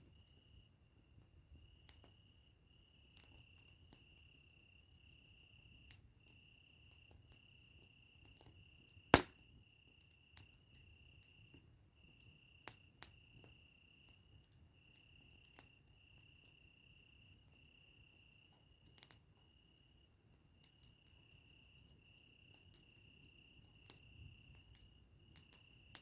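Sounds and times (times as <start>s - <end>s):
campfire crackling and popping: 1.2s - 19.5s, 20.3s - 26.0s.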